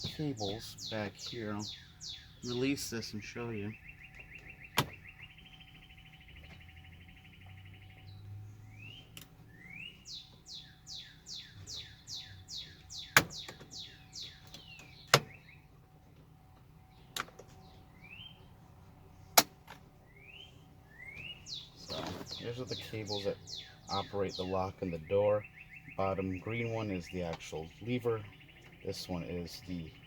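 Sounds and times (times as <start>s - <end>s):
bird singing chirps and trills: 0.0s - 15.8s, 16.5s - 19.4s, 20.0s - 30.0s.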